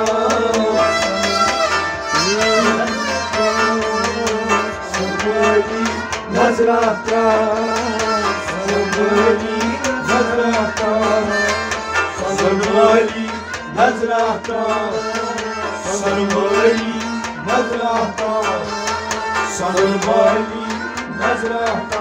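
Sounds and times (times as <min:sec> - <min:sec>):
bowed sarangi melody: 0:00.0 - 0:22.0
goblet drum beat: 0:00.0 - 0:22.0
harmonium: 0:00.0 - 0:22.0
plucked rabab: 0:00.0 - 0:22.0.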